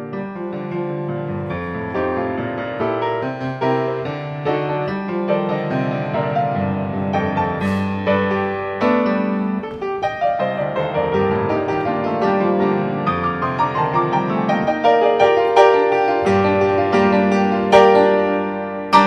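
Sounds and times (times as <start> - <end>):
solo classical piano: 0.0 - 19.0.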